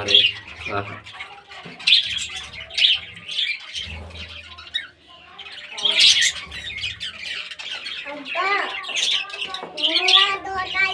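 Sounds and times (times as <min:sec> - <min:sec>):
budgerigars chattering and squawking: 0:00.0 - 0:10.9.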